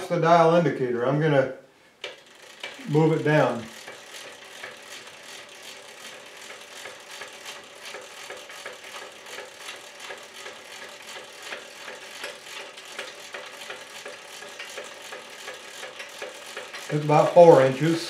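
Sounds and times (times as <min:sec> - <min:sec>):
crank gear clicking and rattling: 0:02.0 - 0:18.0.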